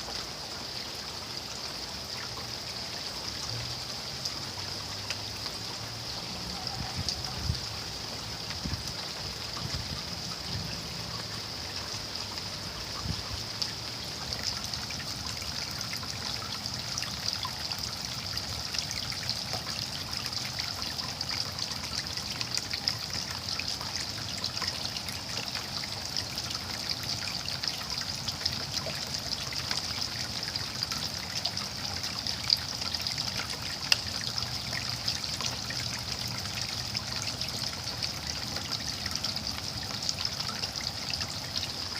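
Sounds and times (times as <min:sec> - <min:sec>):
steady rain: 0:00.0 - 0:41.9
water trickling: 0:00.0 - 0:41.9.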